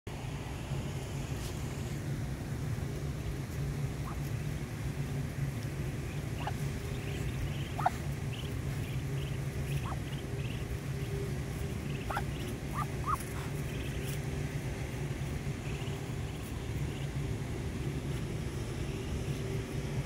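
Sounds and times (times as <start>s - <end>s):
steady low background hum: 0.1s - 20.0s
ducklings peeping: 3.2s - 19.4s.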